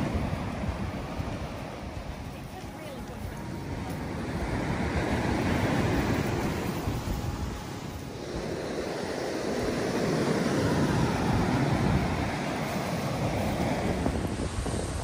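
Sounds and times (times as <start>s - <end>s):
waves breaking on beach: 0.0s - 15.0s
wind rumbling on microphone: 0.0s - 15.0s.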